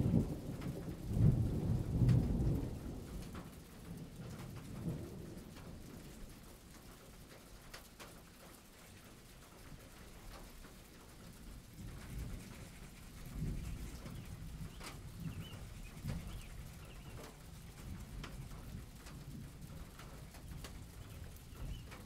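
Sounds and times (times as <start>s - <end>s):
faint rain: 0.0s - 22.0s
water drips: 3.2s - 22.0s.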